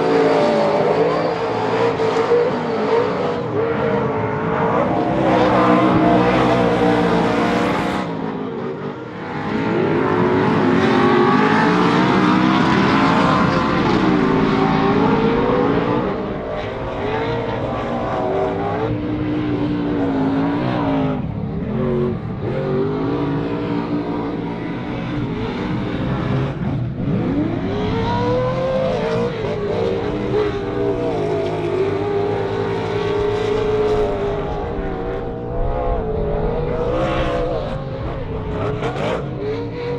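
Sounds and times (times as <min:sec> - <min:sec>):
race truck engine revving: 0:00.0 - 0:39.9.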